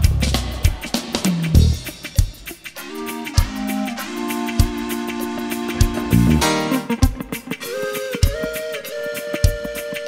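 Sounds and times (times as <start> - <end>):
reggae band playing: 0.0 - 10.0.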